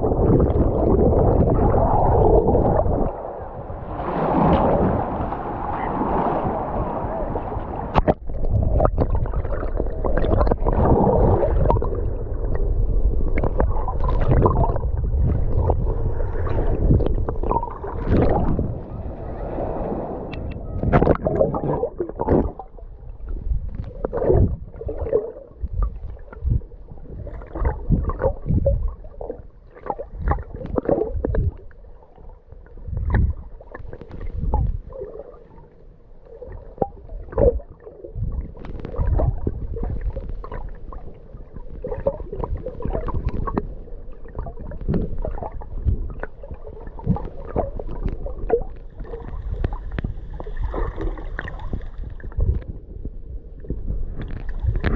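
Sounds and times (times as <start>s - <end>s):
water splashes: 0.0s - 53.0s
seawater sloshing and gurgling: 0.0s - 54.9s.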